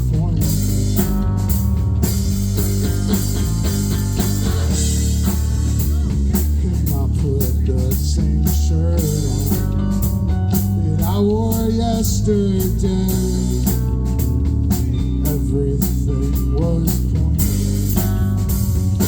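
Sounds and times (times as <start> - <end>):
electric guitar playing: 0.0 - 8.0, 8.6 - 19.0
drum kit beat: 0.0 - 19.0.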